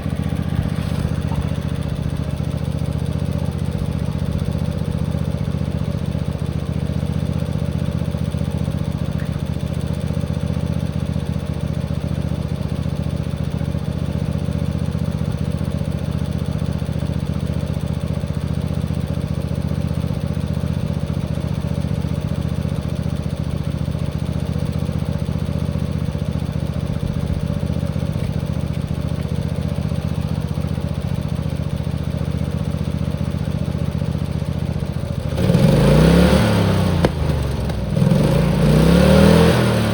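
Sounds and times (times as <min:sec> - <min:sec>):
tractor engine at full throttle: 0:00.0 - 0:39.9.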